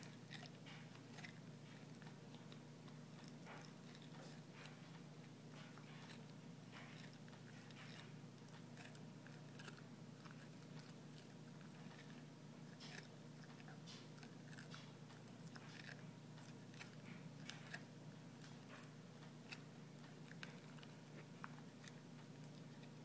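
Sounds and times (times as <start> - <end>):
dog chewing rawhide: 0.0 - 23.0.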